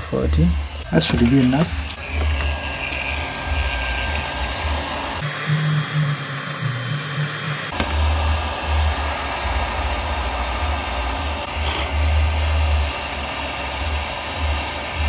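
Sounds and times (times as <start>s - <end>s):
low fan hum: 0.0s - 15.0s
hot air blowing: 0.7s - 15.0s.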